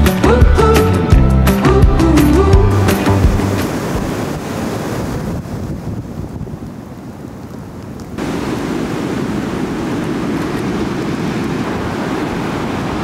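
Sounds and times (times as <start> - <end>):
surf washing onto cobble beach: 1.5 - 13.0
wind noise on microphone: 2.5 - 13.0.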